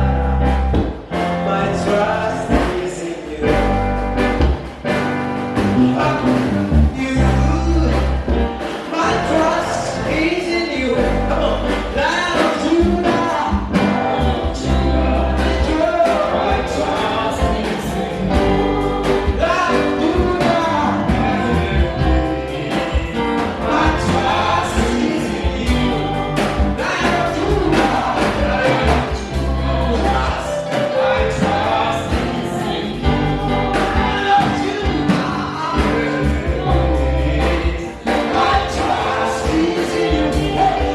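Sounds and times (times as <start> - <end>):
choir singing gospel song: 0.0 - 40.9
instrumental backing with bass beat: 0.0 - 40.9.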